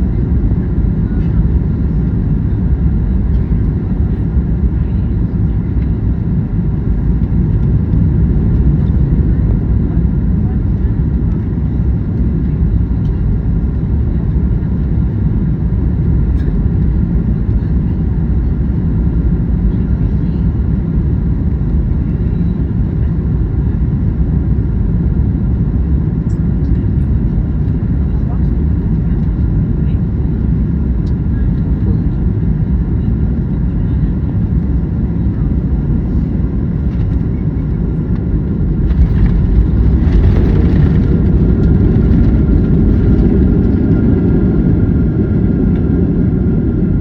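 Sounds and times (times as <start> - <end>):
airliner cabin engine rumble: 0.0 - 47.0.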